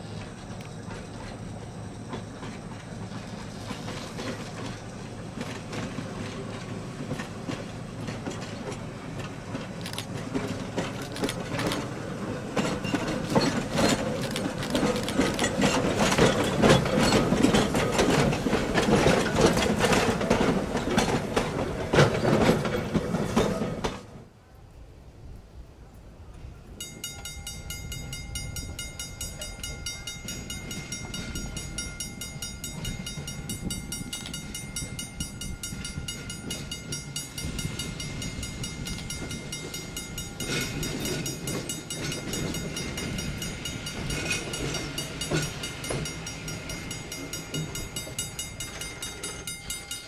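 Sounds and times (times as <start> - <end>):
train wheels clattering over rails: 0.0 - 24.3, 26.8 - 50.0.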